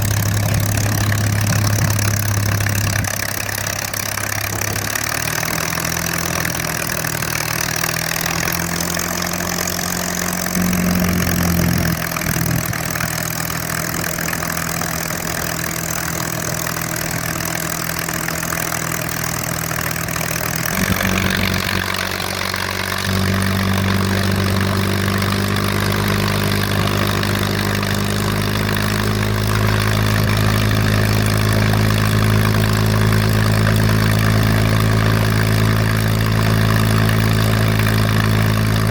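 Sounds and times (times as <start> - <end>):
aircraft engine idling: 0.0 - 38.9.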